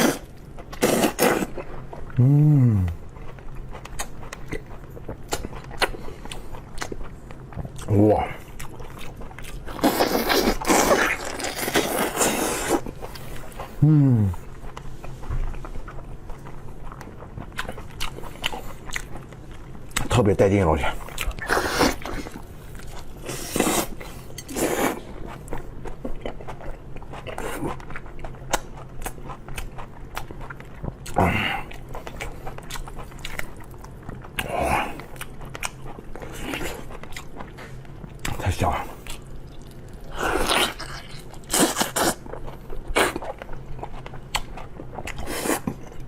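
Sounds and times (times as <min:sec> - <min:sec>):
chewing meat: 0:00.0 - 0:46.0.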